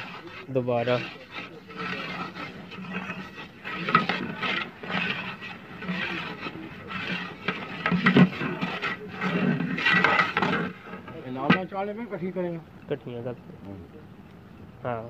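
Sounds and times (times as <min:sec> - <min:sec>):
metal ladle scraping a pot: 0:00.0 - 0:12.4
steady low hum: 0:00.0 - 0:15.0.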